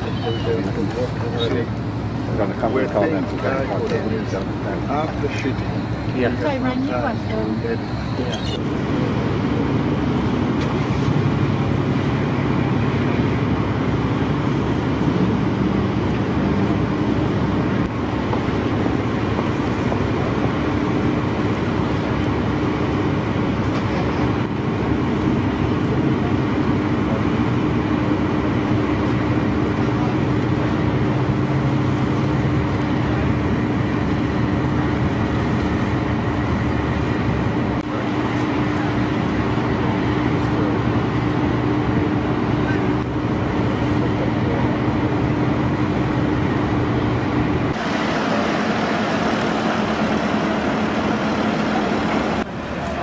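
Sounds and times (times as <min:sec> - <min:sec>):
engine droning steadily: 0:00.0 - 0:53.0.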